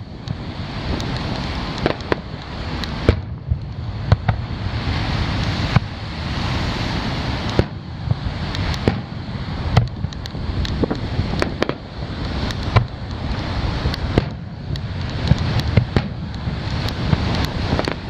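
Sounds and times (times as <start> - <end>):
fireworks bursting with bangs: 0.0 - 18.0
steady rushing noise: 0.0 - 18.0.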